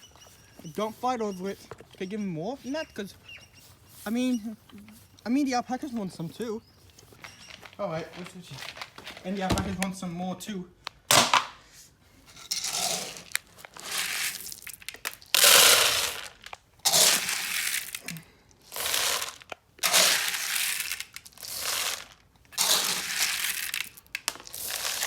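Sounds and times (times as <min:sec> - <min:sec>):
crinkling and rustling: 0:00.0 - 0:11.5, 0:12.2 - 0:25.0.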